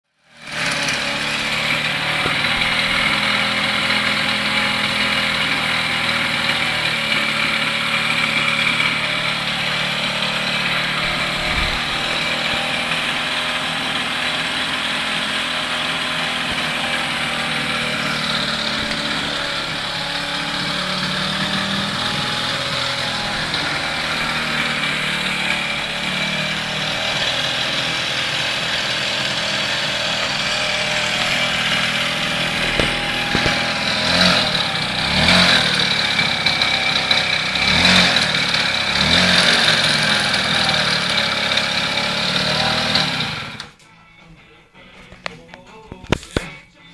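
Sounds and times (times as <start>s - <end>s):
moped engine buzzing: 0.2s - 43.8s.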